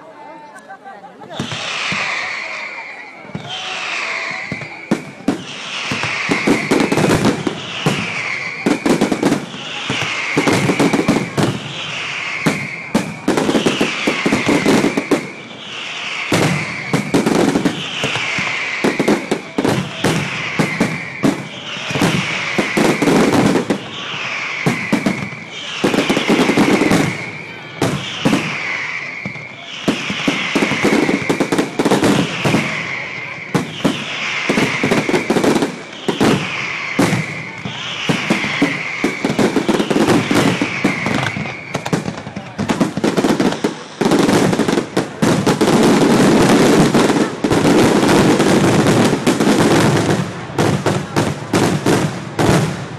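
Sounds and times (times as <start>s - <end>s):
fireworks crackling: 0.0s - 52.9s
falling whistle: 1.2s - 51.6s
fireworks bursting with bangs: 1.2s - 52.9s.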